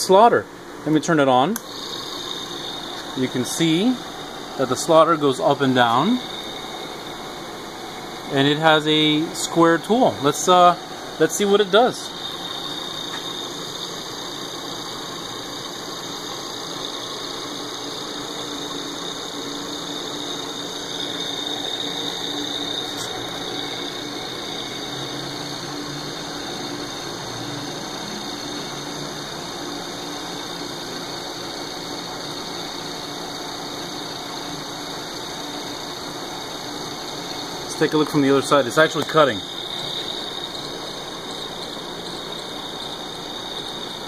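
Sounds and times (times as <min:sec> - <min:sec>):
slotting machine running with whine: 0:00.0 - 0:44.0.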